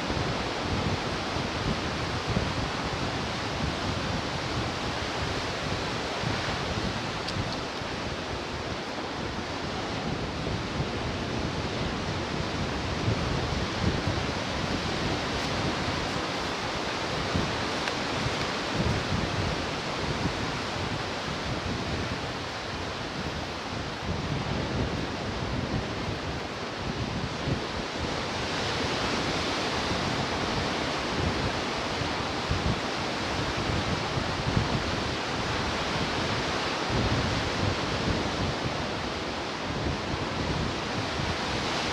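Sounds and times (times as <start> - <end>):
ocean waves breaking on shore: 0.1 - 39.7.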